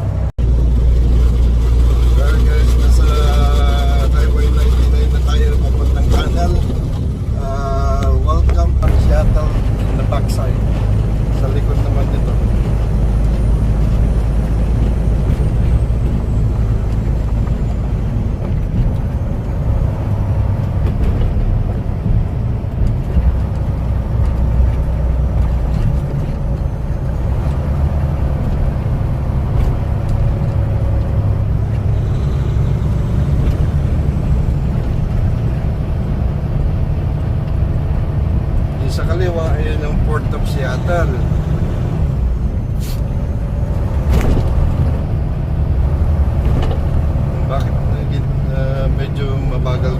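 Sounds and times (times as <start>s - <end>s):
truck engine and tyre noise: 0.0s - 49.9s.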